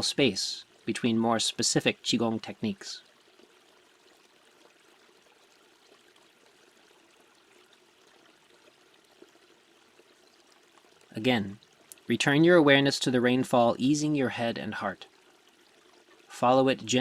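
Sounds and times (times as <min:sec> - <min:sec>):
faint running water: 0:00.0 - 0:17.0.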